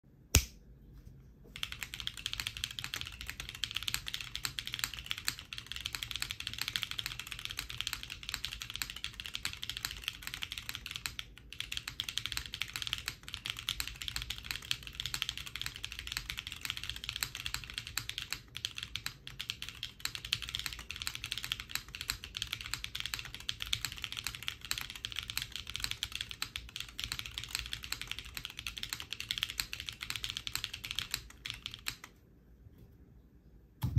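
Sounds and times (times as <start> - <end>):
typing on mechanical keyboard: 1.6 - 32.1.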